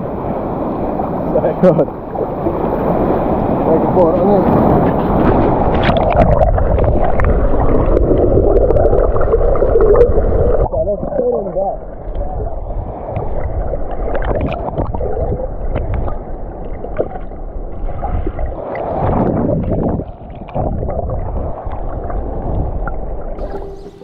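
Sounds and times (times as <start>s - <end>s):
wind buffeting microphone: 2.2s - 24.0s.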